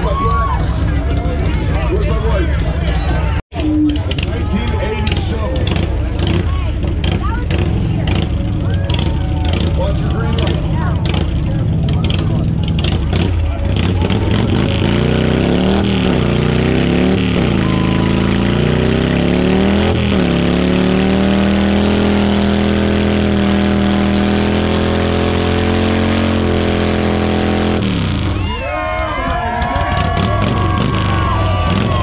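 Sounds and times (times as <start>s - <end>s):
crowd shouting and cheering: 0.0s - 22.0s, 27.8s - 32.0s
motorcycle engine revving: 0.0s - 28.7s, 29.3s - 32.0s
rear tyre spinning: 0.0s - 32.0s.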